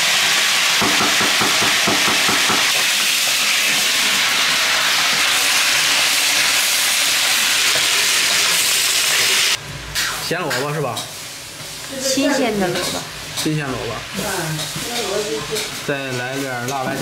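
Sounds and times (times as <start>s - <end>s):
cabbage sizzling in hot oil: 0.0s - 16.9s.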